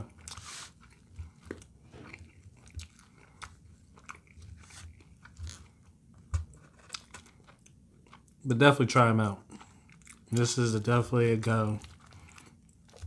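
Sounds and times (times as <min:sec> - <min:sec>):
person chewing food: 0:00.0 - 0:08.4, 0:09.4 - 0:13.0.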